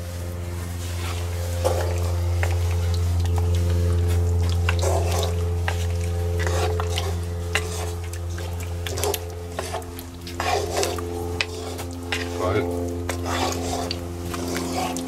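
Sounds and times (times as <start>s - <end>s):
low hum: 0.0s - 15.0s
wooden spoon scraping a pot: 0.0s - 15.0s.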